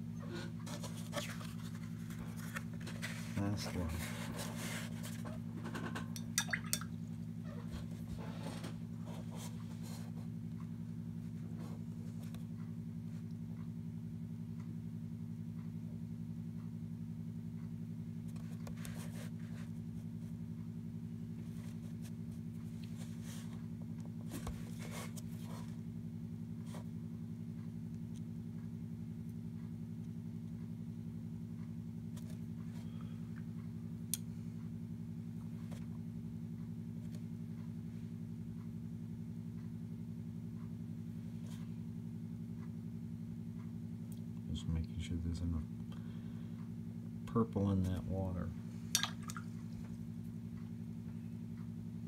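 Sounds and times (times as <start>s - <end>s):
low multi-tone hum: 0.0s - 52.0s.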